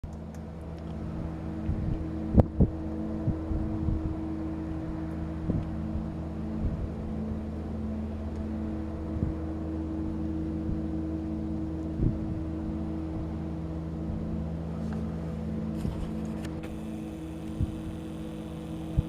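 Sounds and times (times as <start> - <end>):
low industrial machine hum: 0.0 - 19.0.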